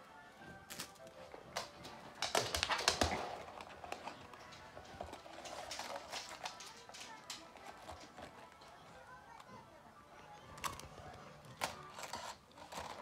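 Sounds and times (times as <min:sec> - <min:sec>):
plastic toys clattering on floor: 0:00.8 - 0:09.5, 0:10.6 - 0:13.0.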